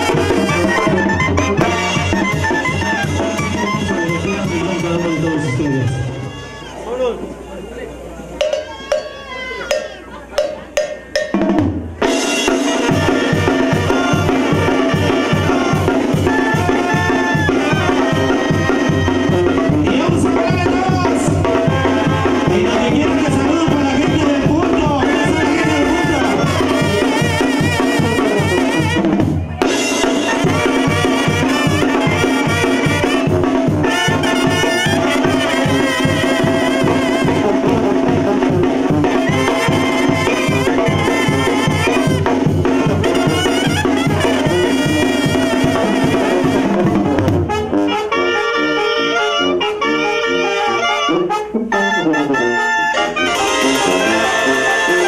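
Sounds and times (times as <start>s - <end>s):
bass drum snare and cymbal: 0.0s - 6.2s, 8.4s - 47.7s
sousaphone bass line: 0.0s - 6.8s, 8.4s - 47.3s
trumpets and trombones: 0.0s - 7.4s, 8.4s - 55.0s.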